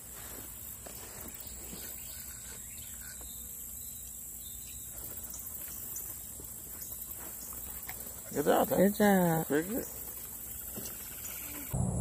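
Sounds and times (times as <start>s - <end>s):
high-pitched insect chorus: 0.5s - 12.0s.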